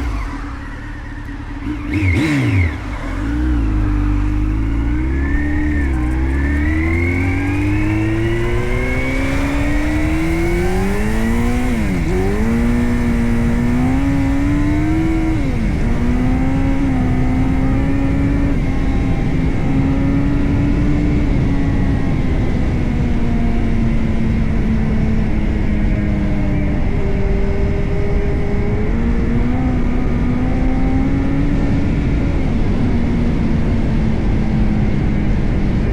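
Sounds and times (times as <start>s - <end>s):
motorcycle engine accelerating: 0.0s - 35.9s
wind and road noise: 0.0s - 35.9s.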